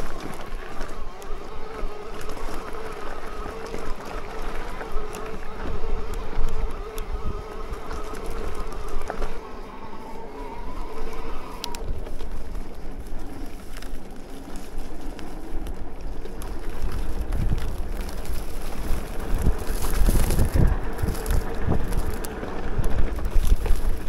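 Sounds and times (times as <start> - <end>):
electric bike motor whining: 0.0 - 24.0
tyre rumble on rough track: 0.0 - 24.0
wind on microphone: 0.0 - 24.0.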